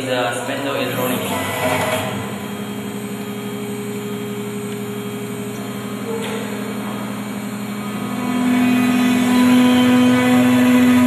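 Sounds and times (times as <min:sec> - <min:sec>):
router spindle humming: 0:00.6 - 0:11.0.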